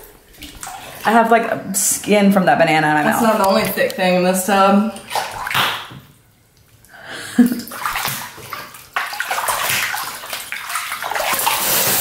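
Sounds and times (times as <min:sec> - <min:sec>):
bath water sloshing and splashing: 0:00.0 - 0:12.0.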